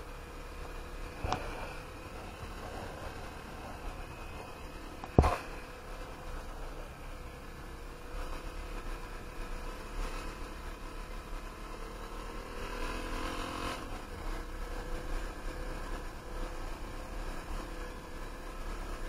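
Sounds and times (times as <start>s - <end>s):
wind and road rumble: 0.0s - 19.0s.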